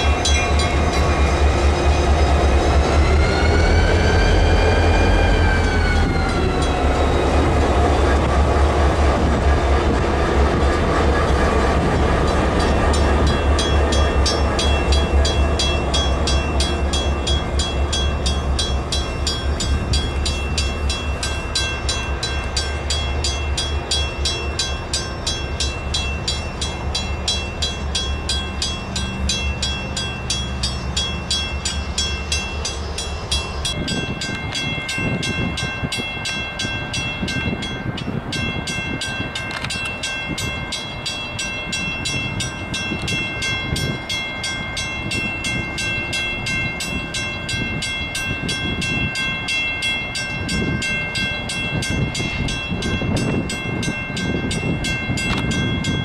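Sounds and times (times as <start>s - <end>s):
crossing bell ringing: 0.0s - 56.0s
diesel locomotives rumbling past: 0.0s - 56.0s.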